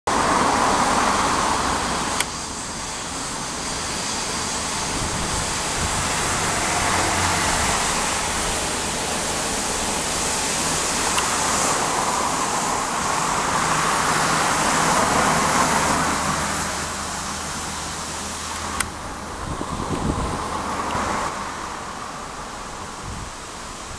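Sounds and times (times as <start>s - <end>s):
jet engines taxiing: 0.1s - 23.9s.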